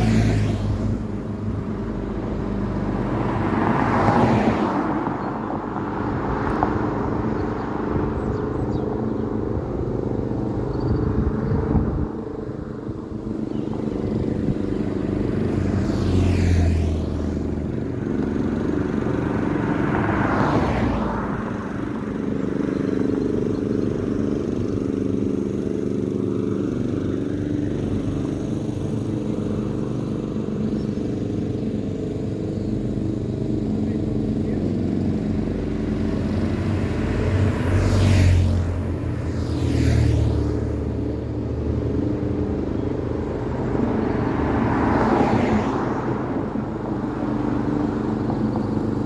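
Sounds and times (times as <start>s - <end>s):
cars passing by: 0.0s - 49.0s.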